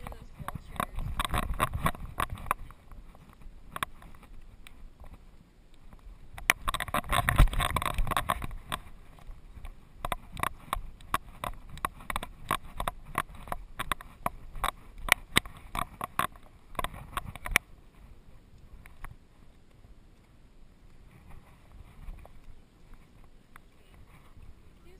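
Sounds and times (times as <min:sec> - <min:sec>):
rustling: 0:00.0 - 0:24.9.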